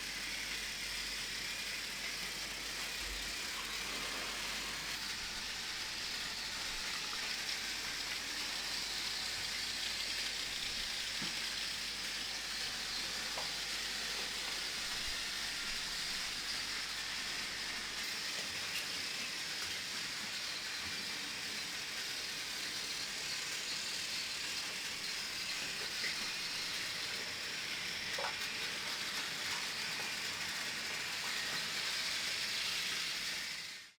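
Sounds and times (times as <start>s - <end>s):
toy train motors whirring: 0.0s - 34.0s.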